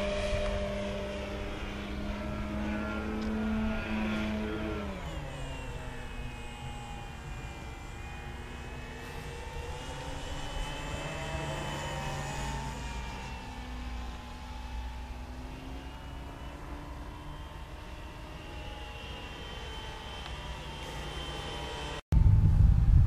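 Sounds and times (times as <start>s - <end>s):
model plane engine droning: 0.0s - 23.0s.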